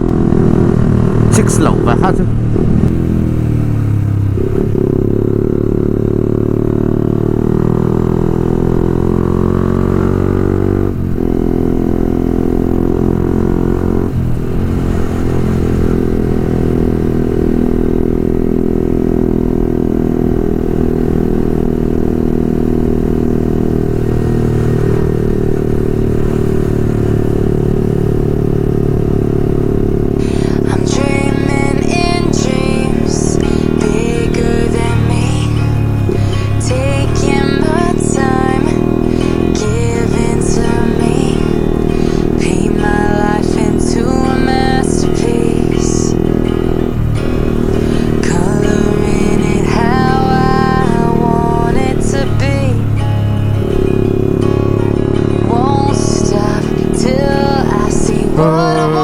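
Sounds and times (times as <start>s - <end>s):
motorcycle accelerating and shifting: 0.0s - 59.0s.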